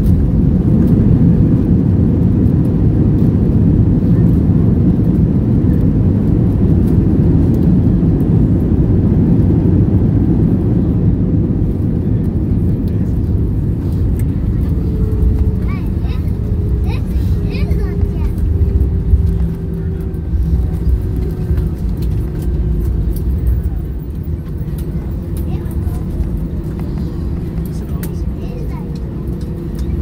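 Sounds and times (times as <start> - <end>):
airliner engine noise: 0.0 - 30.0
wheels running on runway: 0.0 - 30.0.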